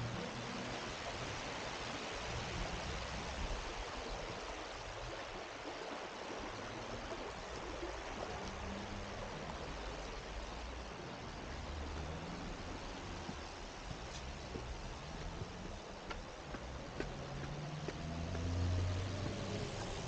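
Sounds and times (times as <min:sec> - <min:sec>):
river flowing over stones: 0:00.0 - 0:20.0.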